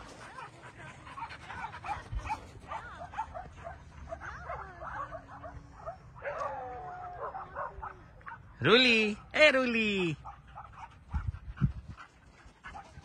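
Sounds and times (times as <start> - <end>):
dogs barking and yipping: 0.0 - 8.6, 10.0 - 13.0.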